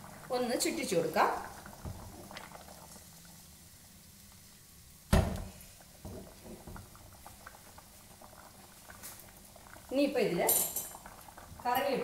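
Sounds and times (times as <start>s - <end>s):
clay pot swirling on stovetop: 0.0s - 4.0s, 5.3s - 12.0s
hot curry bubbling: 0.0s - 12.0s.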